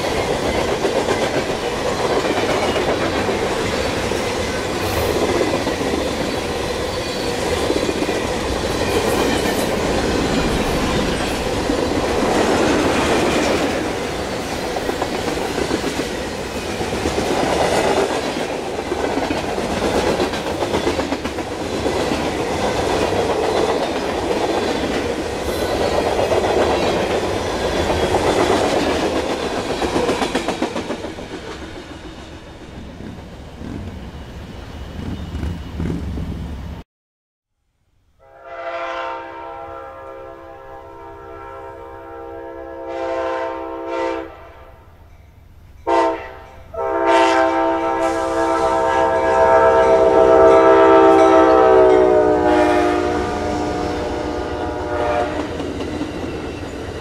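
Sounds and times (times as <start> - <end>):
freight train rolling past: 0.0 - 36.8, 38.2 - 57.0.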